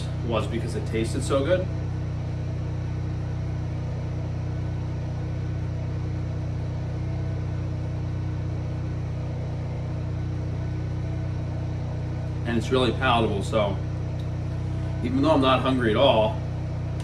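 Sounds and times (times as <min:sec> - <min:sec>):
generator engine hum: 0:00.0 - 0:17.0.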